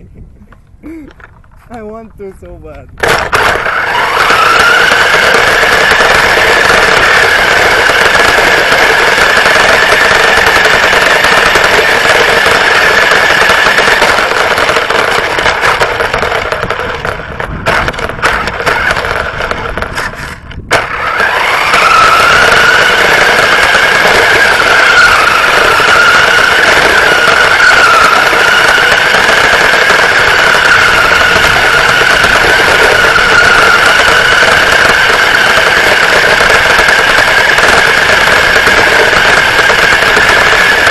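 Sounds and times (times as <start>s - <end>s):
high-pitched motor whine: 3.0s - 40.9s.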